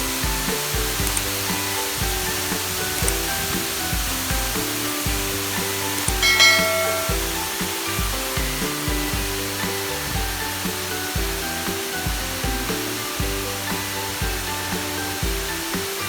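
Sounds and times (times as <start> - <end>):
background music with beat: 0.0 - 16.0
rushing hiss: 0.0 - 16.0.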